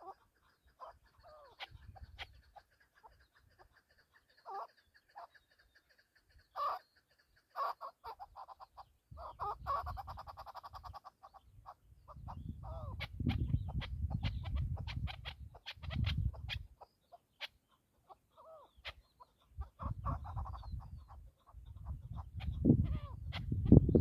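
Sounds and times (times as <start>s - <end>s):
partridge clucking calls: 0.0s - 24.0s.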